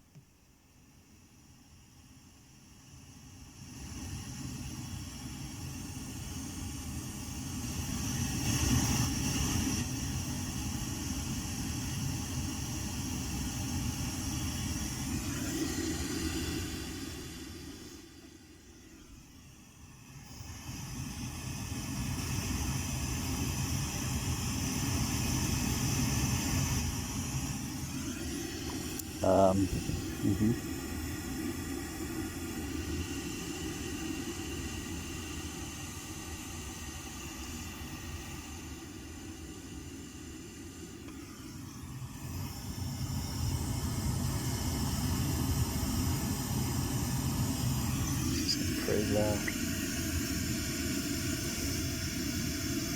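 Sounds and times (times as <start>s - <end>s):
pink noise hiss: 3.6s - 52.9s.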